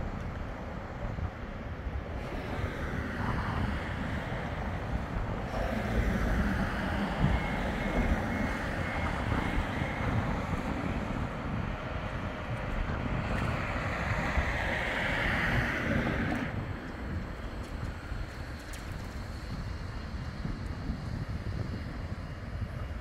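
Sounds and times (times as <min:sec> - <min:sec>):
tram running: 0:00.0 - 0:23.0
wind buffeting microphone: 0:00.0 - 0:23.0.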